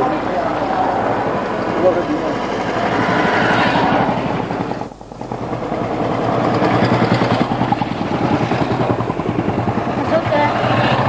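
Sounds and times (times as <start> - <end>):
motorcycles riding past: 0.0 - 11.0.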